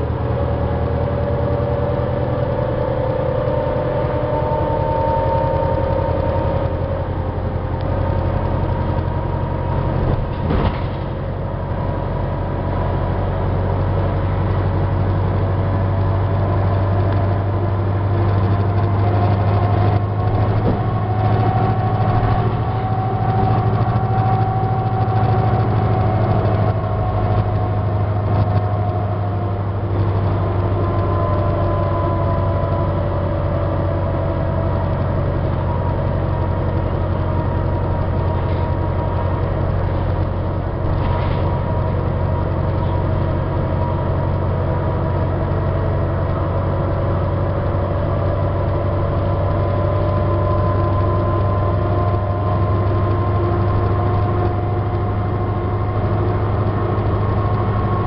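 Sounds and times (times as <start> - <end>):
bus engine drone: 0.0 - 58.0
transmission whine: 0.0 - 58.0.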